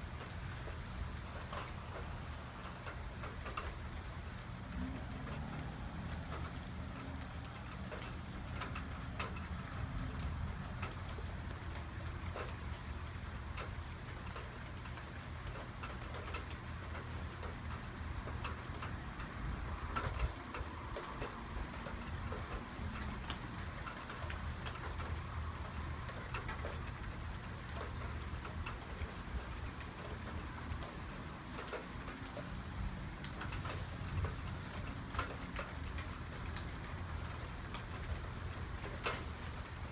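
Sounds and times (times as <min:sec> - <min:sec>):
heavy rain falling: 0:00.0 - 0:39.9
raindrops ticking on hard surfaces: 0:00.0 - 0:39.9.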